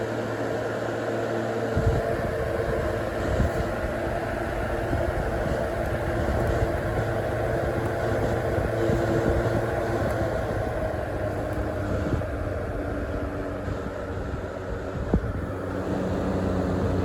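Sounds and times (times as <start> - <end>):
table fan running: 0.0 - 17.0.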